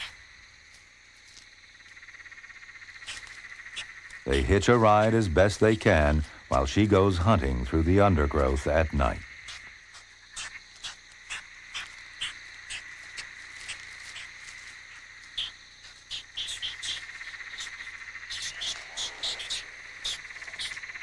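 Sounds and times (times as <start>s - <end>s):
insect trill: 0.0s - 21.0s
insects chirping: 0.0s - 21.0s.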